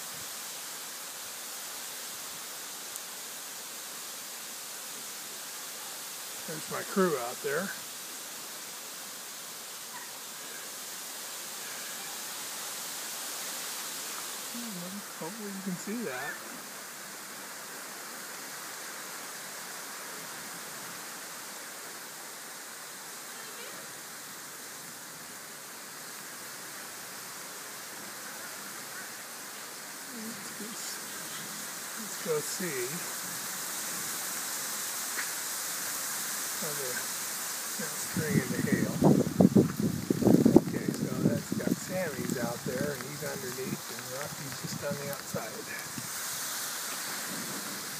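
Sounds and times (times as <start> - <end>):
wet snow falling hiss: 0.0 - 47.9.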